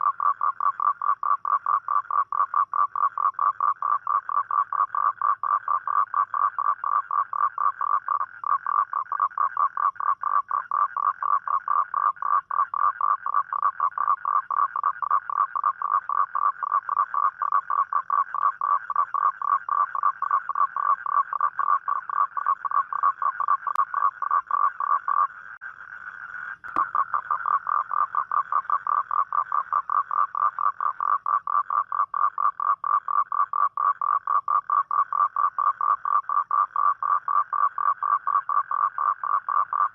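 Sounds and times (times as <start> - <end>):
toad croaking: 0.0 - 39.9.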